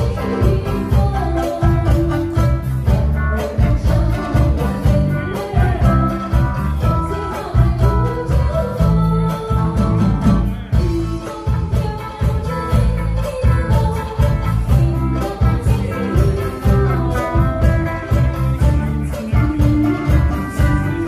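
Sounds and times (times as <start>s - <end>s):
live band playing: 0.0s - 21.0s
woman singing: 0.0s - 21.0s.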